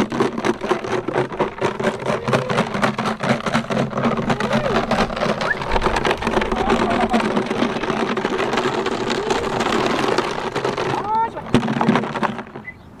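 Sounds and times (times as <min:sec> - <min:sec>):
loud clattering and rattling: 0:00.0 - 0:12.7.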